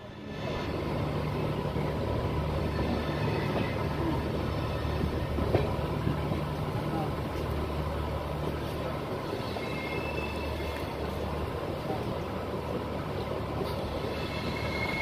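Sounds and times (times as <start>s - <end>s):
train coaches rumbling on rails: 0.0s - 15.0s.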